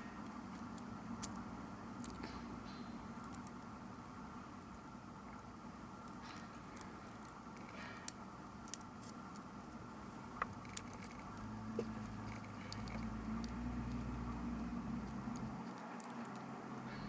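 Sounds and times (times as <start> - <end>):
low steady hum: 0.0 - 17.0
small parts and tools clicking: 0.2 - 5.0, 6.0 - 9.8, 10.4 - 17.0.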